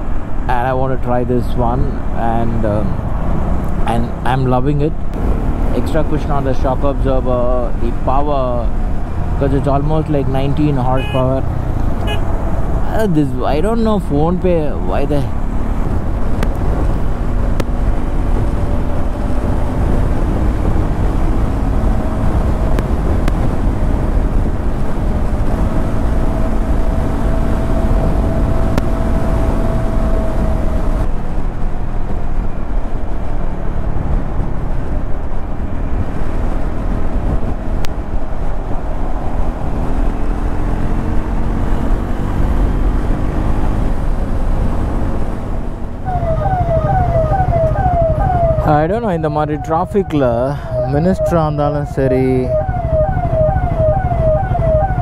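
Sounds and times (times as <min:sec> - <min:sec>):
heavy wind: 0:00.0 - 0:55.0
road rumble: 0:00.0 - 0:55.0
motorcycle engine cruising: 0:05.2 - 0:55.0.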